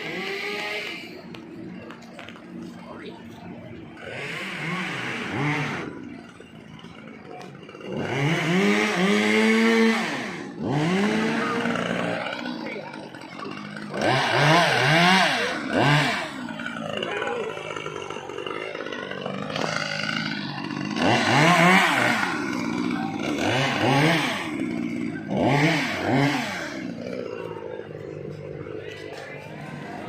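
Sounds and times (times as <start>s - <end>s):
chainsaw revving and idling: 0.0s - 30.0s.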